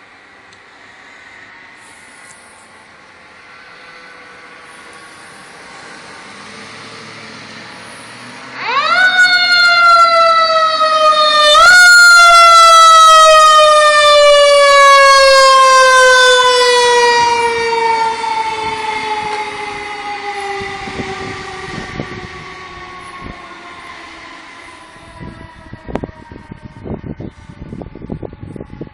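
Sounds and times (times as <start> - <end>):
low truck engine rumble: 0.0 - 28.9
fire engine siren winding: 4.2 - 28.8.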